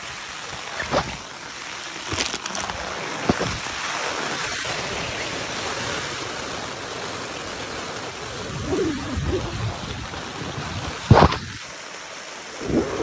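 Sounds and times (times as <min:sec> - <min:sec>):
rain on tent fabric: 0:00.0 - 0:13.0.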